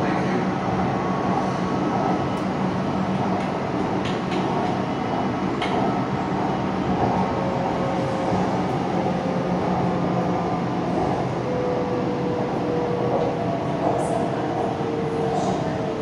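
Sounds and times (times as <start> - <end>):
electric train running rumble: 0.0 - 16.0.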